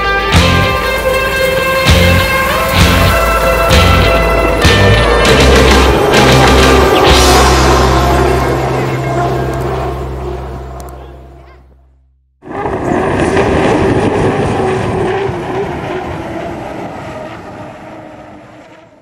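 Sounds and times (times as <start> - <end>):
gas turbine engine rushing: 0.2 - 11.5, 12.4 - 19.0.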